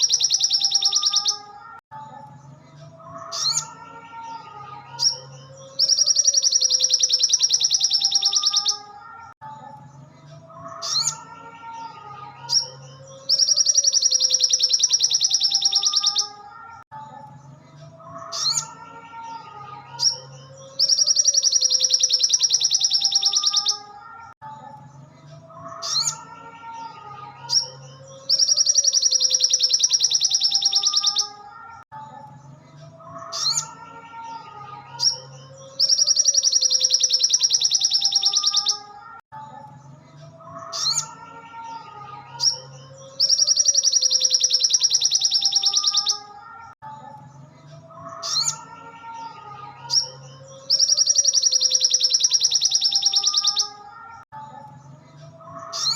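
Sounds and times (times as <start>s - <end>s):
bird trilling and chirping: 0.0s - 17.4s, 18.0s - 32.4s, 33.1s - 39.8s, 40.4s - 54.8s, 55.5s - 55.9s.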